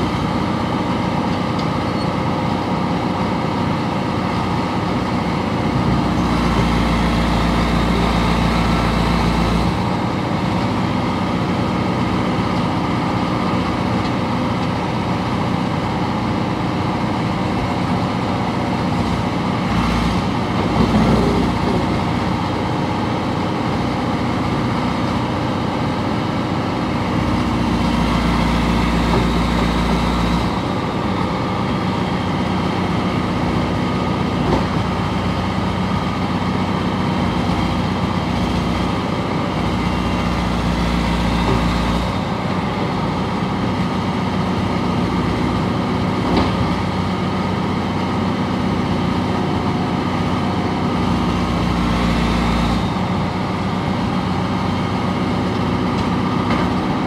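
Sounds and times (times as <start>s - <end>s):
diesel engine low rumble: 0.0s - 57.0s.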